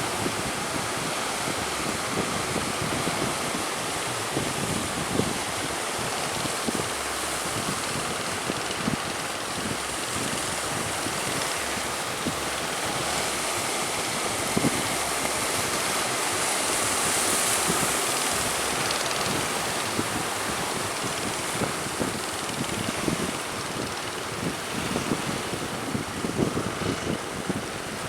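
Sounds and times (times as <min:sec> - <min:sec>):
rough sea waves: 0:00.0 - 0:28.0
strong wind buffeting microphone: 0:00.0 - 0:28.0.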